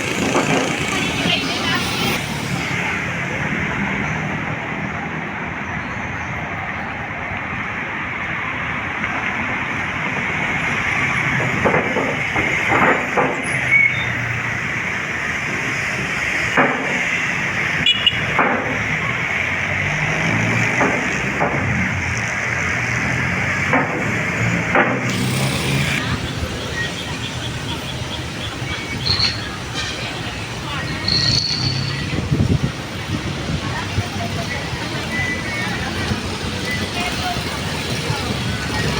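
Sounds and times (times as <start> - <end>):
city road traffic: 0.0 - 38.9.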